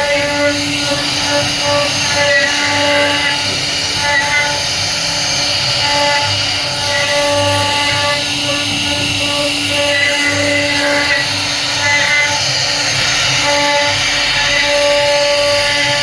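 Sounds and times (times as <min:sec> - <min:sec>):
cnc router whining: 0:00.0 - 0:16.0.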